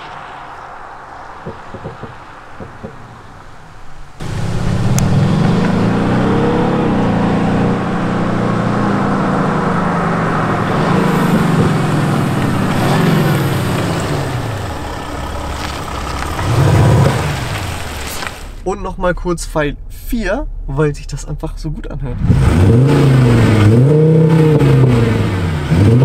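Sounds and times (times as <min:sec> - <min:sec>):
suv driving up revving: 0:00.0 - 0:18.5, 0:22.1 - 0:26.0.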